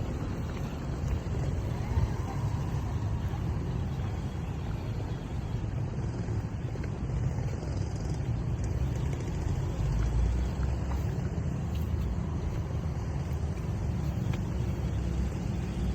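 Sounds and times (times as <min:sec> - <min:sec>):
deep outdoor rumble: 0:00.0 - 0:15.9.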